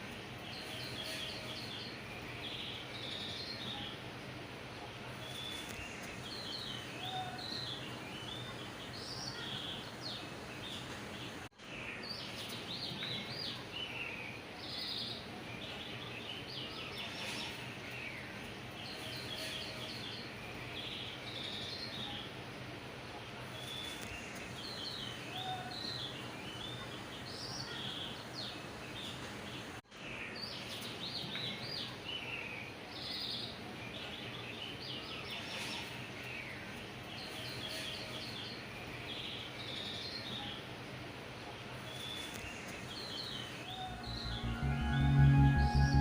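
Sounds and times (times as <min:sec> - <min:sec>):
small birds chirping: 0:00.0 - 0:44.6
steady background hiss: 0:00.0 - 0:46.0.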